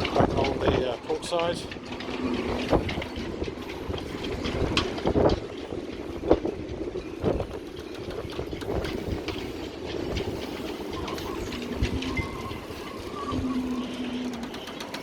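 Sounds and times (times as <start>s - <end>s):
footsteps on boat deck: 0.0s - 15.0s.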